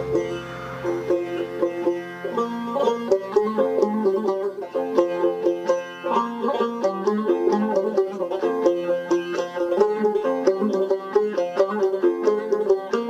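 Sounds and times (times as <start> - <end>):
plucked lutes playing melody: 0.0 - 13.0.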